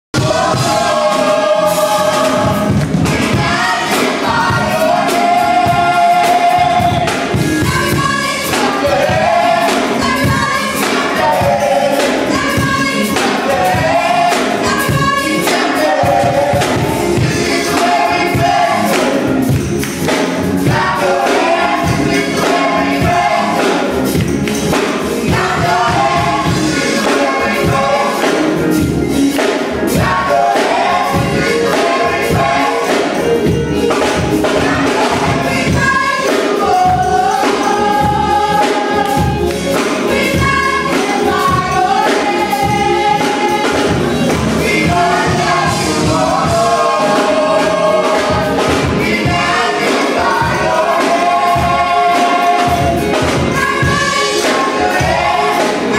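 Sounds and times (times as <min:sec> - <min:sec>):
gospel choir singing: 0:00.1 - 0:55.9
steady beat: 0:00.2 - 0:55.9.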